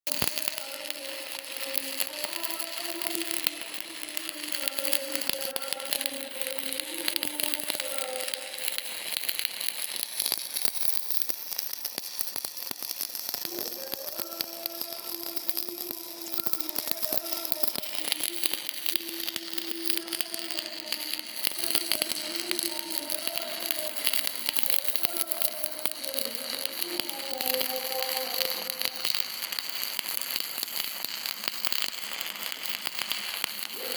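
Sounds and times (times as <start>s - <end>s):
welding arc crackling: 0.0s - 33.9s.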